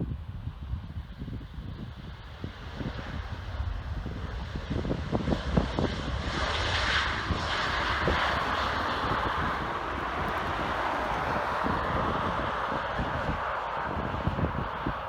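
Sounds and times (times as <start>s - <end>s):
wind buffeting microphone: 0.0s - 15.0s
jet engines roaring: 2.0s - 15.0s.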